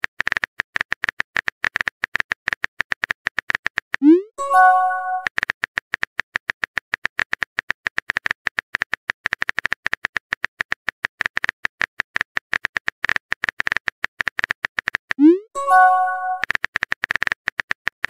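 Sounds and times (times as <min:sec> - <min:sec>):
rapid keyboard-like typing clicks: 0:00.0 - 0:04.0, 0:05.2 - 0:15.2, 0:16.1 - 0:18.0.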